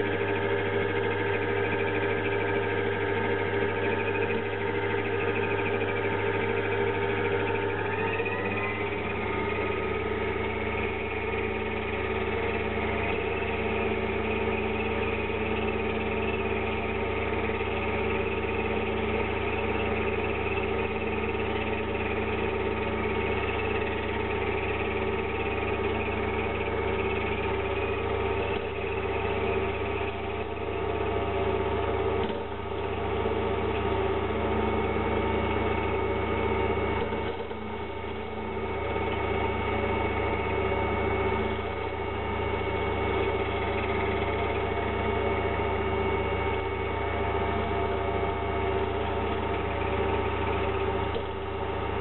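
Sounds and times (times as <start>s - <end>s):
metal lathe running: 0.0s - 52.0s.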